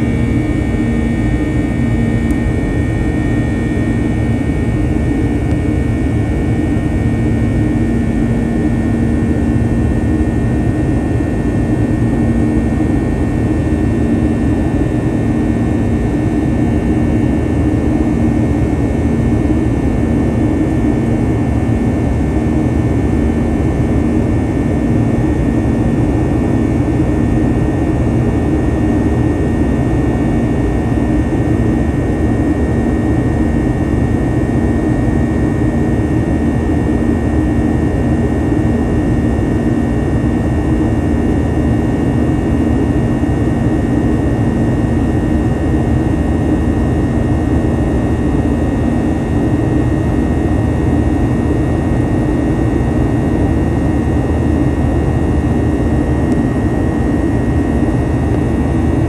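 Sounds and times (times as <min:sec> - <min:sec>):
jet engines in cabin: 0:00.0 - 0:59.0.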